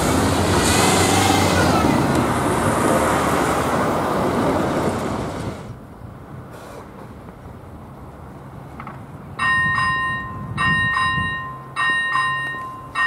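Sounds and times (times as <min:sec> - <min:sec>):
train wheels on rail: 0:00.0 - 0:05.8, 0:06.4 - 0:13.0.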